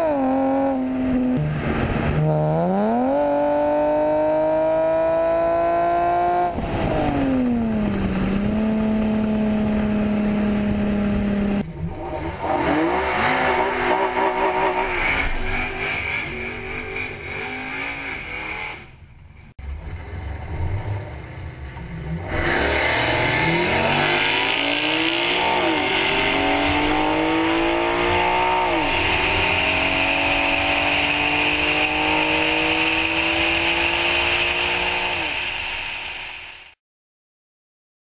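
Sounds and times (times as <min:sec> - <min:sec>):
car engine accelerating: 0:00.0 - 0:18.8, 0:19.6 - 0:36.5.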